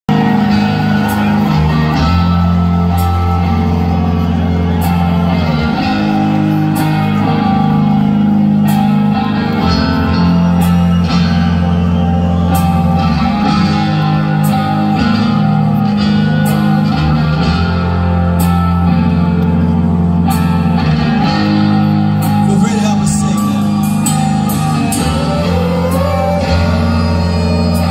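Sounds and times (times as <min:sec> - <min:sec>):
rock band playing live: 0:00.1 - 0:27.9.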